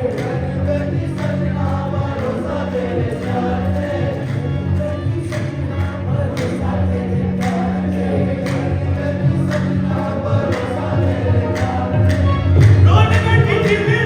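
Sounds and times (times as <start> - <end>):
group of voices singing: 0.0 - 14.0
steady drum beat: 0.0 - 14.0.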